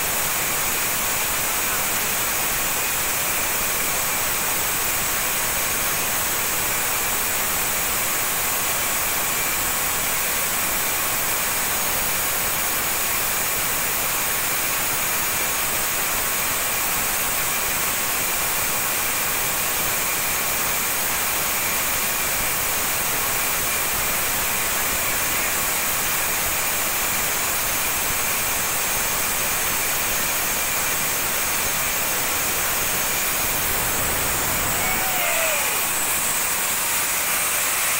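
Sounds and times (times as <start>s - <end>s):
sawmill running: 0.0s - 37.9s.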